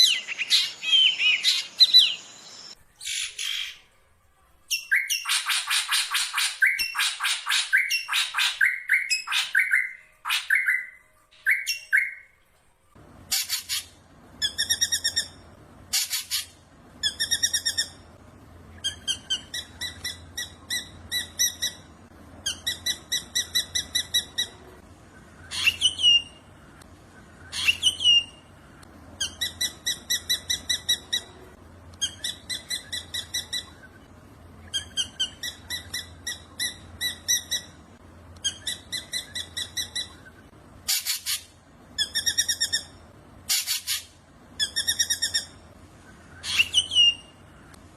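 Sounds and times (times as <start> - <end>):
bird chirping: 0.0 - 3.9, 4.7 - 12.4, 13.3 - 47.8
upward-sweeping bird calls: 0.0 - 3.9, 4.7 - 12.4, 18.8 - 28.5, 29.2 - 37.8, 38.4 - 47.8.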